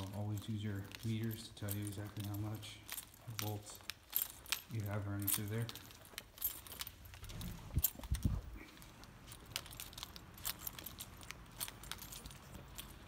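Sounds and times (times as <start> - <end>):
metallic jingling and clicking: 0.0 - 13.0.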